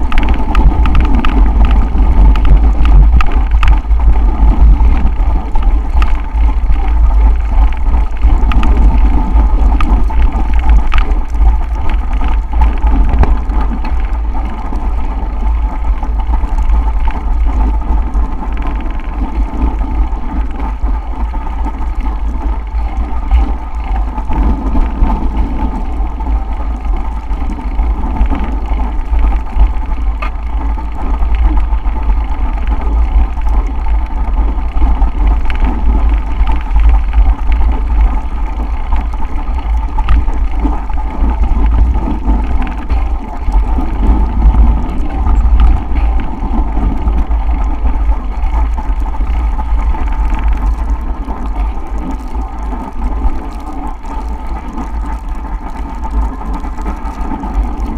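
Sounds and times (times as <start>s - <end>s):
bicycle riding hum: 0.0s - 57.9s
wind buffeting microphone: 0.0s - 57.9s.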